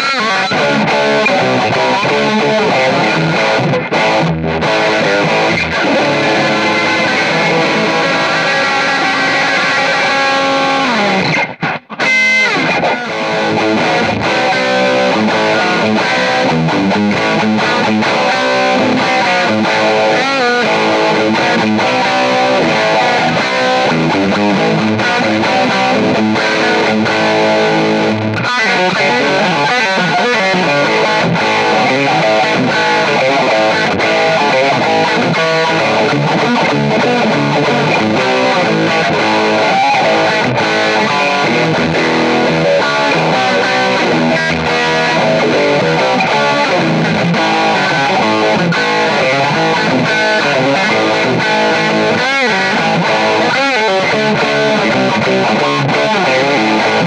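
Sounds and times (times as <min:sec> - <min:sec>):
distorted electric guitar music: 0:00.0 - 0:57.0.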